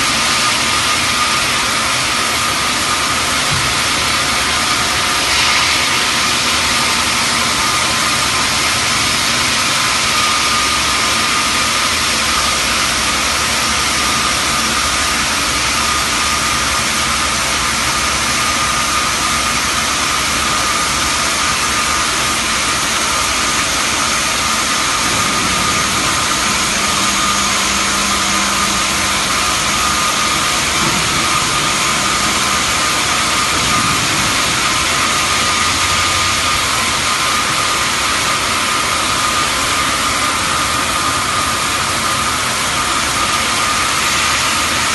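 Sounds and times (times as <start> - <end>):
band saw cutting stone: 0.0 - 16.9, 17.9 - 44.9.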